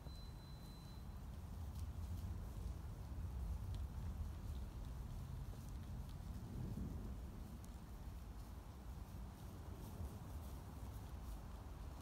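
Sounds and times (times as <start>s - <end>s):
wind buffeting microphone: 1.6s - 12.0s.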